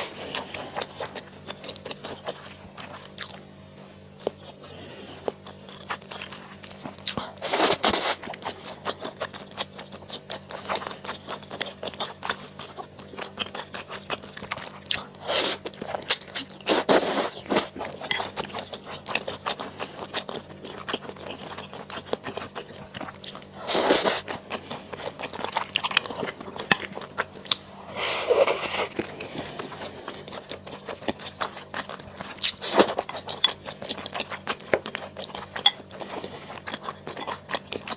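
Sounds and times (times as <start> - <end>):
chewing and crunching: 0.0 - 37.9.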